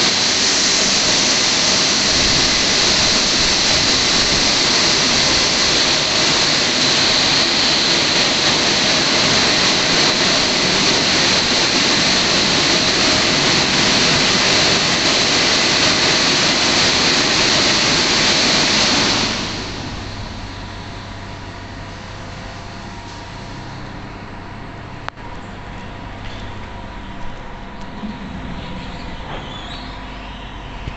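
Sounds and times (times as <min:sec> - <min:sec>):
car wash dryer blowers rushing: 0:00.0 - 0:30.9.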